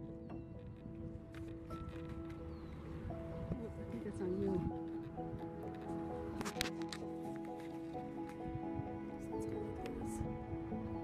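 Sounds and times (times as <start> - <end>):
background music with sustained notes: 0.0 - 11.0.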